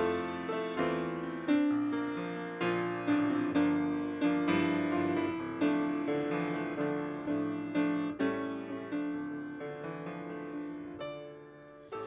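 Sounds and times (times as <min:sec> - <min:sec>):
slow piano interlude: 0:00.0 - 0:12.0.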